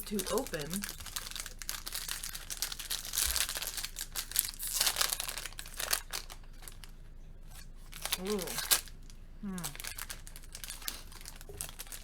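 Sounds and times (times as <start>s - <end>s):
plastic wrapper crinkling and tearing: 0.0s - 7.0s, 7.9s - 12.0s.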